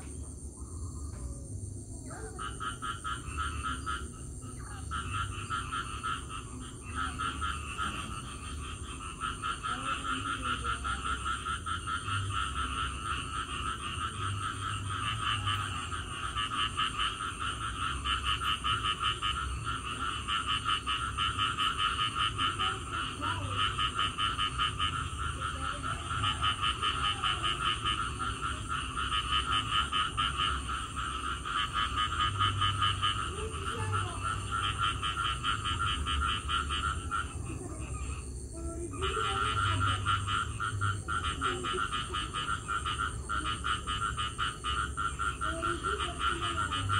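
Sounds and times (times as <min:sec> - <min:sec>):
chorus of frogs calling: 0:00.0 - 0:46.9.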